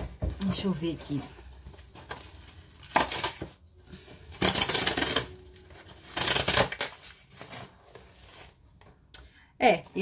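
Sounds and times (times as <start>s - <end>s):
cardboard rustling and scraping: 0.0s - 8.6s.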